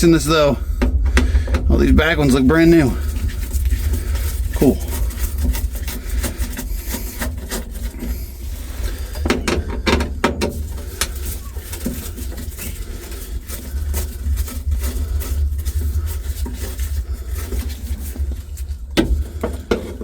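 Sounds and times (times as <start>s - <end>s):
steady low rumble: 0.0s - 19.8s.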